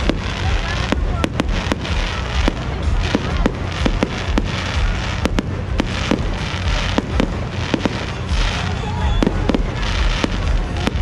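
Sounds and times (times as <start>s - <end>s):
continuous rumble: 0.0s - 11.0s
fireworks bangs and pops: 0.0s - 11.0s.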